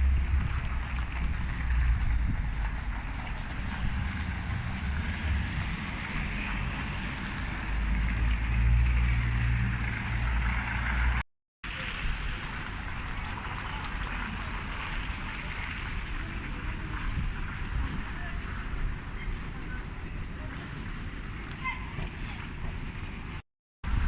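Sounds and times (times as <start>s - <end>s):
wind buffeting microphone: 0.0s - 10.6s, 11.8s - 24.0s.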